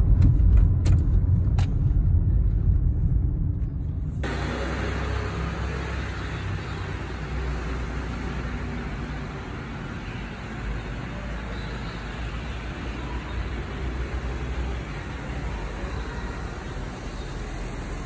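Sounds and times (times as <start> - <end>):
street traffic: 0.0 - 18.0
truck engine rumble: 0.0 - 18.0.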